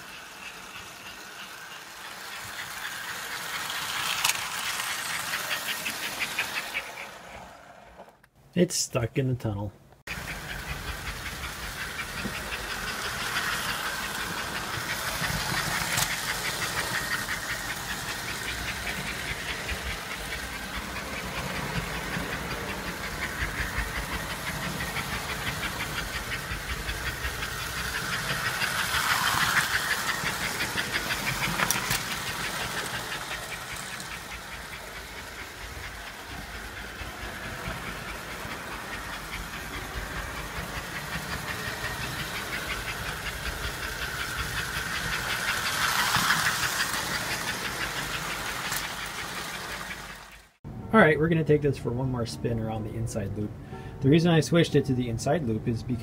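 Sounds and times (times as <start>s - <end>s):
model train motor hum: 0.0s - 8.3s, 10.1s - 50.6s
wheel clatter on rails: 0.0s - 8.3s, 10.1s - 50.6s.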